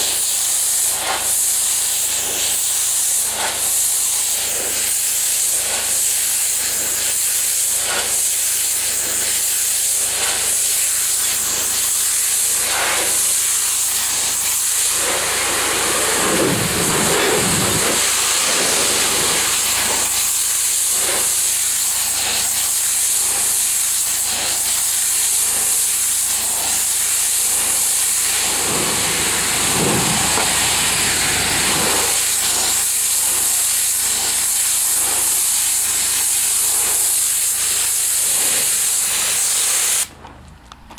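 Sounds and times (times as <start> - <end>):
pressure washer spraying water: 0.0 - 40.1.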